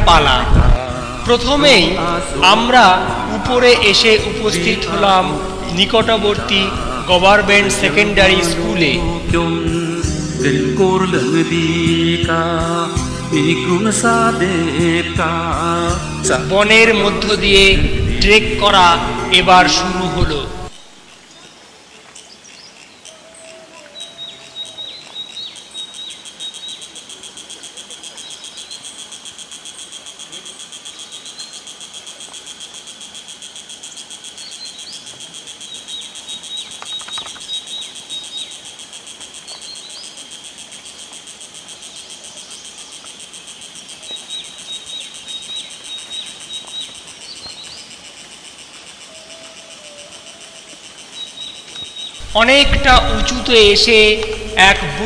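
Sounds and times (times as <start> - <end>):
bird chirping calls: 0.0 - 9.4, 16.3 - 55.0
high-pitched insect drone: 0.0 - 10.4, 15.8 - 21.8, 22.8 - 55.0.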